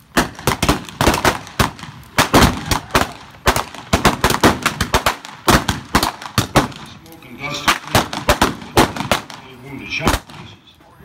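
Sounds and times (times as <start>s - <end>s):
rapid gunshots: 0.1s - 6.9s, 7.6s - 10.6s.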